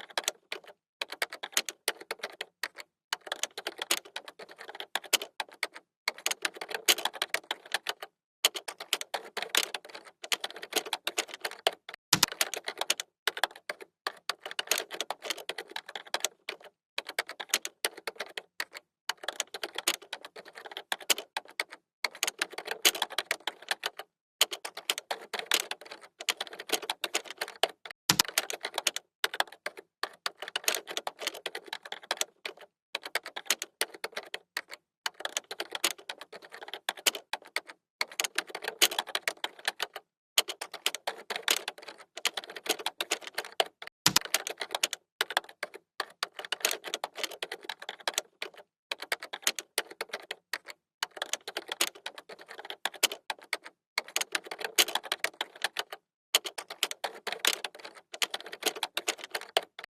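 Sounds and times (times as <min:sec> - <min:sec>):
keyboard typing: 0:00.0 - 0:59.9.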